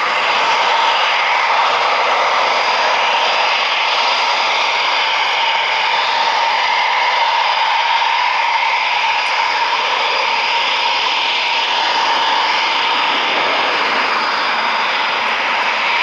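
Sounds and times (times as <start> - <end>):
jet engines roaring with whine: 0.0 - 16.0.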